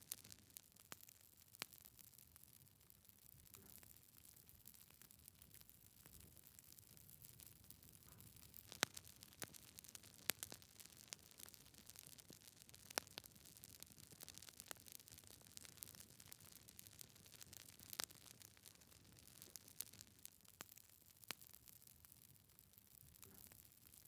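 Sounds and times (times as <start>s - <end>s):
logs crackling and popping: 0.0s - 24.0s.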